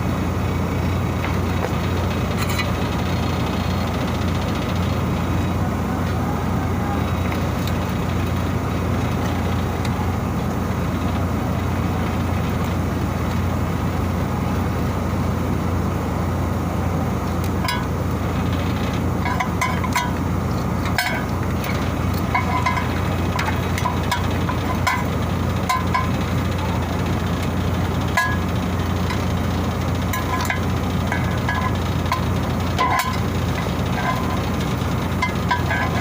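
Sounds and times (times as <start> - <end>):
machinery hum: 0.0 - 36.0.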